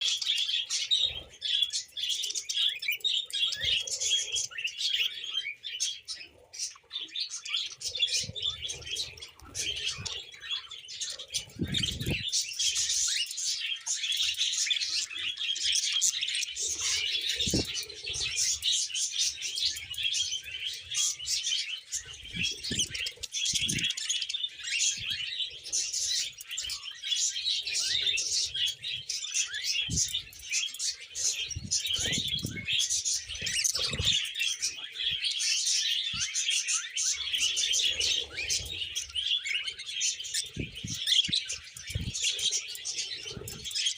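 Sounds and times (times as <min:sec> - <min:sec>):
budgerigars chattering: 0:00.0 - 0:43.9.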